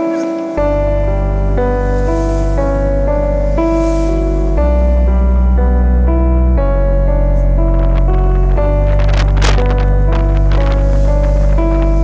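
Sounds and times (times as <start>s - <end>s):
sustained keyboard chords: 0.0s - 12.0s
deep bass: 0.6s - 12.0s.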